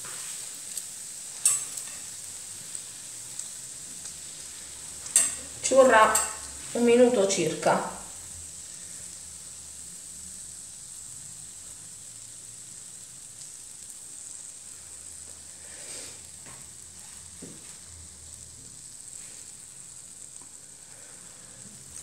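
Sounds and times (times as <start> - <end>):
doughnuts sizzling in hot oil: 0.0 - 22.0.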